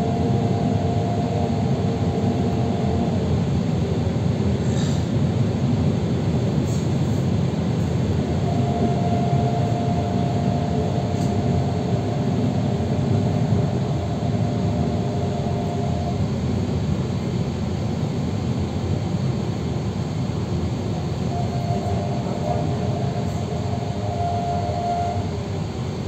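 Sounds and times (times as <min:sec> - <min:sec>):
thin steady whine: 0:00.0 - 0:05.0, 0:07.7 - 0:26.0
train wheels rumbling on rails: 0:00.0 - 0:26.0.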